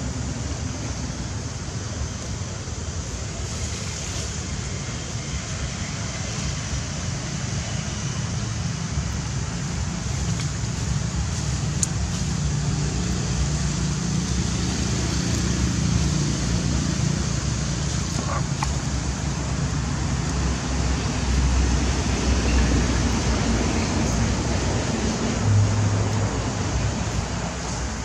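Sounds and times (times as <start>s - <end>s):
low outdoor background noise: 0.0s - 28.0s.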